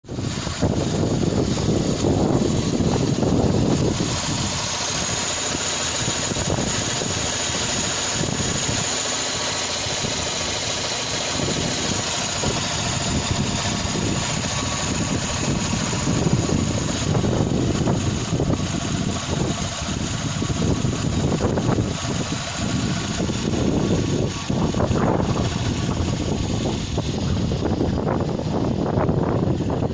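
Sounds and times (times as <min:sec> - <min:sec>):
car engine running: 0:00.0 - 0:29.9.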